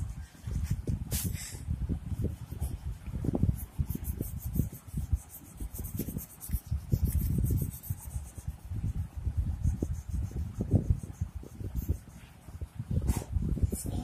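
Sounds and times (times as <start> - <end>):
crayon rubbing on paper: 2.1 - 14.0.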